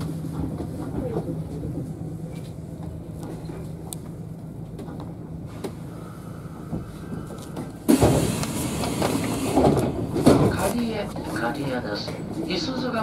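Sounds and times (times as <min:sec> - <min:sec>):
train doors sliding open: 0:00.0 - 0:12.5
electric train running hum: 0:00.0 - 0:13.0.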